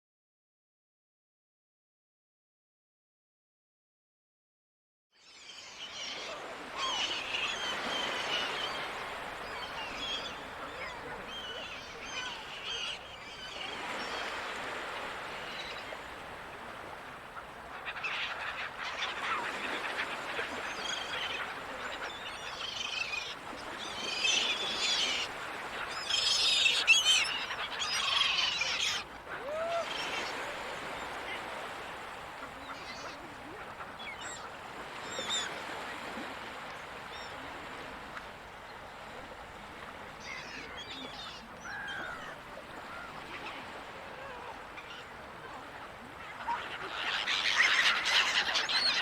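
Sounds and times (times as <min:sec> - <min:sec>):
gulls calling: 0:05.8 - 0:38.0, 0:38.7 - 0:49.0
ocean surf: 0:06.0 - 0:49.0.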